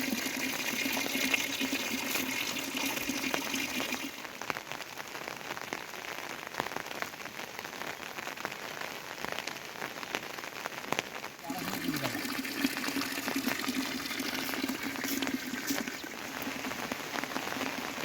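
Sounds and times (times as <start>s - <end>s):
raindrops striking close by: 0.0s - 18.0s.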